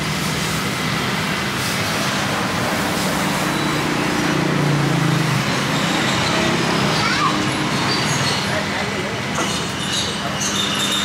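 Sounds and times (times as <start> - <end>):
street traffic noise: 0.0 - 11.0
vehicle engine: 0.0 - 11.0.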